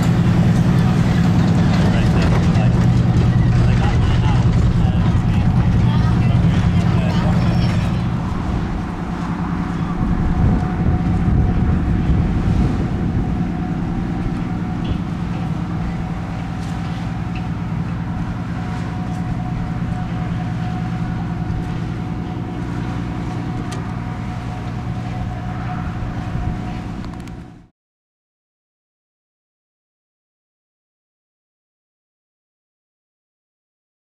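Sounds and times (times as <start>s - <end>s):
boat diesel engine droning: 0.0s - 27.7s
thin steady whine: 0.1s - 27.7s.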